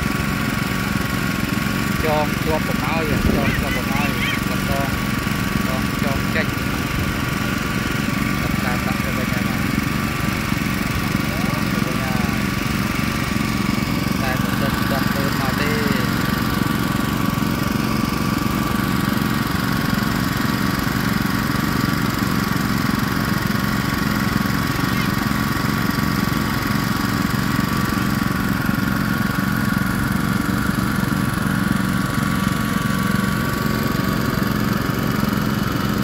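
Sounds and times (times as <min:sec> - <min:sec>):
water pump engine humming: 0:00.0 - 0:36.0.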